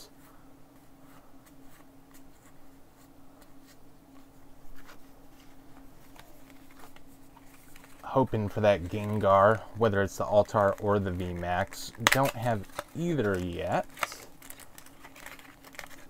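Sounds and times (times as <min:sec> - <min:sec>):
steady low hum: 0:00.0 - 0:16.0
trading cards rustling: 0:00.8 - 0:16.0.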